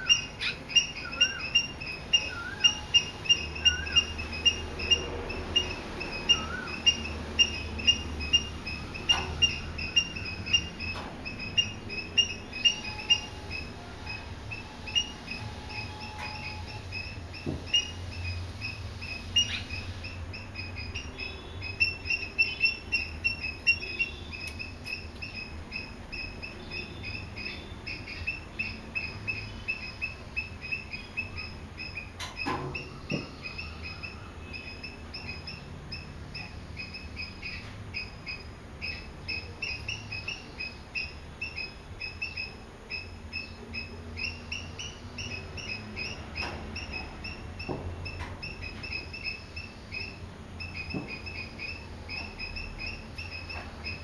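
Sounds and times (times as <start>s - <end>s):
swallows chirping: 0.0s - 54.0s.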